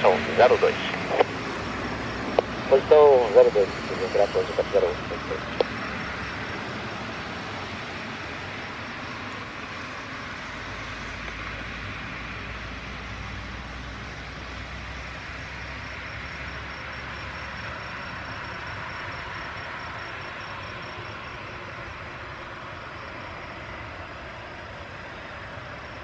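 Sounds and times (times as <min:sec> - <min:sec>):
jet engines idling: 0:00.0 - 0:26.0.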